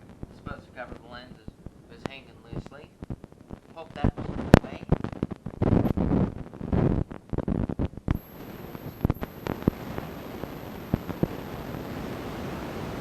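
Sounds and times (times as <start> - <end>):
bumps and rubbing on microphone: 0.0 - 12.1
steady hiss: 0.0 - 13.0.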